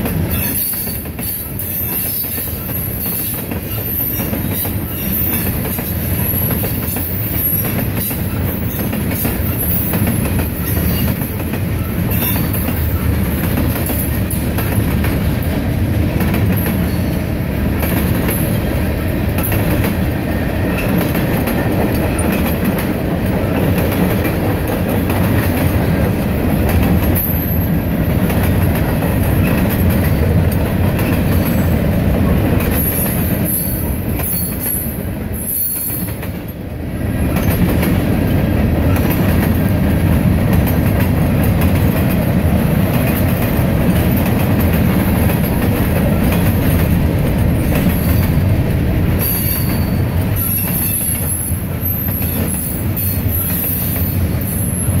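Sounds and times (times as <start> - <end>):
clickety-clack over rail joints: 0.0 - 55.0
freight train wheels rumbling on rail: 0.0 - 55.0.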